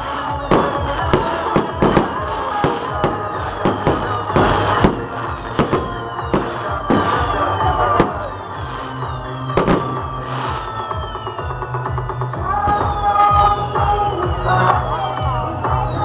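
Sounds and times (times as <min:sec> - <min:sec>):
background music: 0:00.0 - 0:16.0
firework whistles falling in pitch: 0:00.0 - 0:16.0
fireworks popping and banging: 0:00.0 - 0:16.0.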